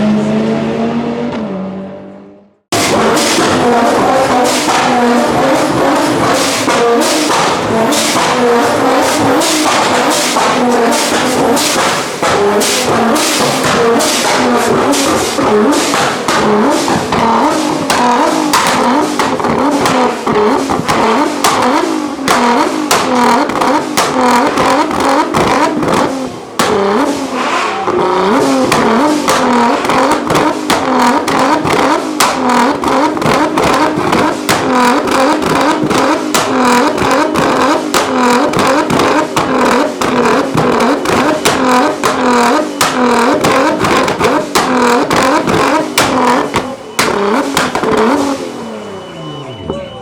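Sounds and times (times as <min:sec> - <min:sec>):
car engine revving: 0:00.0 - 0:50.0
exhaust pops and bangs: 0:02.7 - 0:48.6.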